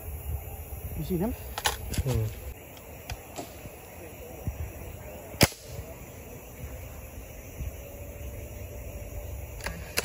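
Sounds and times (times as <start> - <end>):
wind rumble on microphone: 0.0 - 2.6, 3.6 - 10.0
faint steady tone: 0.0 - 10.0.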